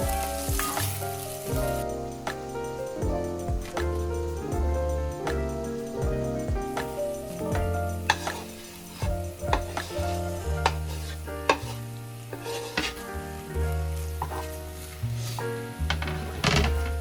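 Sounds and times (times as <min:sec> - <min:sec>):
food sizzling in a frying pan: 0:00.0 - 0:17.0
soft background music: 0:00.0 - 0:17.0.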